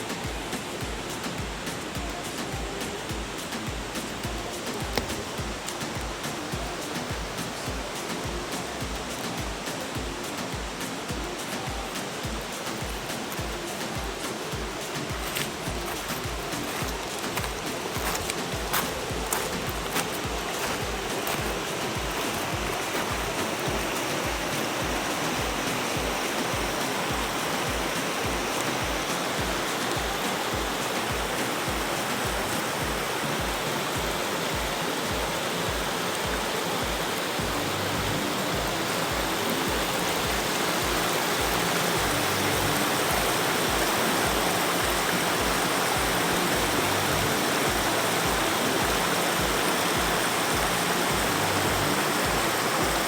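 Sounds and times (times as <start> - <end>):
soft background music with low beat: 0.0 - 53.0
stream rushing over rocks: 0.0 - 53.0.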